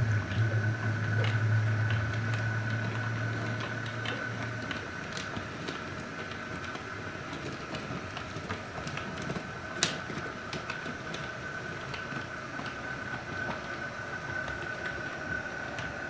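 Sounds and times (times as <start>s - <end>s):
model train motor whine: 0.0s - 16.0s
wheels clicking over rail joints: 0.0s - 16.0s.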